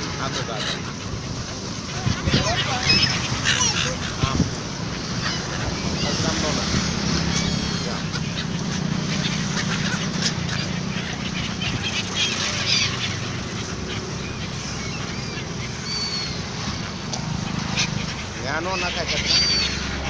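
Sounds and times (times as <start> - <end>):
gulls calling: 0.0 - 20.0.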